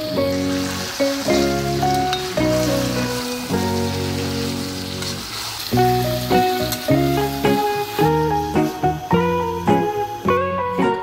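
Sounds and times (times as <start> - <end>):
background music with held notes: 0.0 - 11.0
chicken sizzling in a pan: 0.0 - 11.0.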